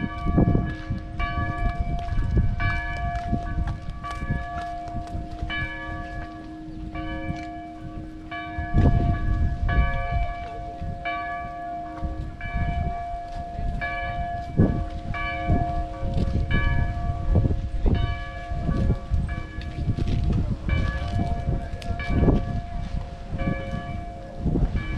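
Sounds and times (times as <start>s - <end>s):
church bells ringing: 0.0s - 24.9s
low rumbles: 0.0s - 24.9s.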